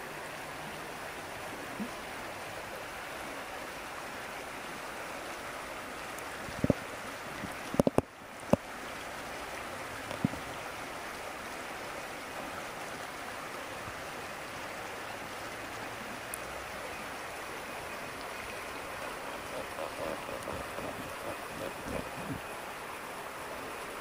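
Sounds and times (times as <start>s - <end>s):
rushing water noise: 0.0s - 24.0s.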